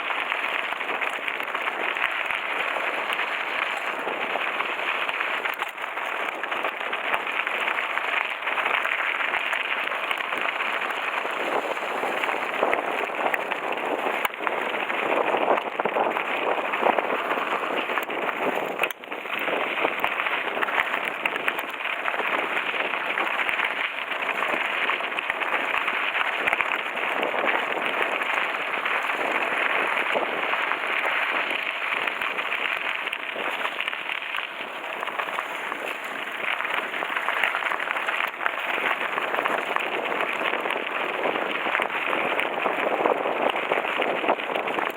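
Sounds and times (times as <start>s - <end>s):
bike tyres crunching on gravel: 0.0s - 44.9s
stones clicking and crackling: 0.0s - 44.9s.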